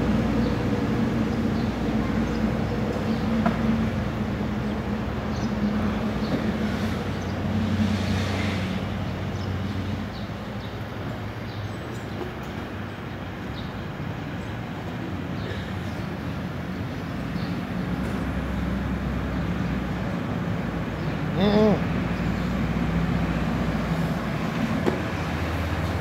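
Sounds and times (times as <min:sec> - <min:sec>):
vehicle engines and traffic hum: 0:00.0 - 0:26.0.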